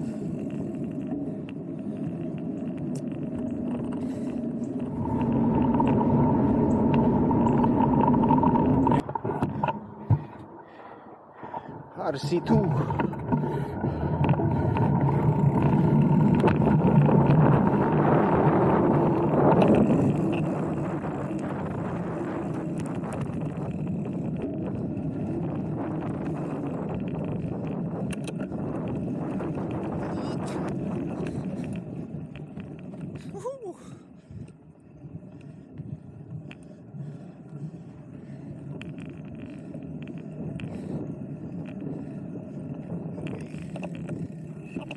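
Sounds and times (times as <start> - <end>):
mountain bike rolling on trail: 0.0 - 44.9
wind rumbling on microphone: 0.0 - 44.9.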